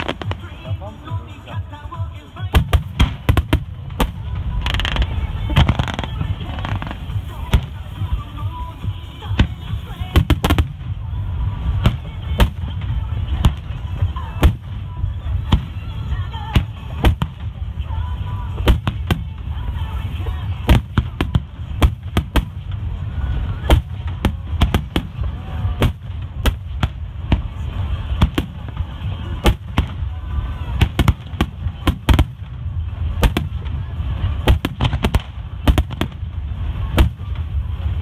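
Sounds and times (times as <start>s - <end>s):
firework bangs: 0.0s - 38.0s
low rumble: 0.0s - 38.0s.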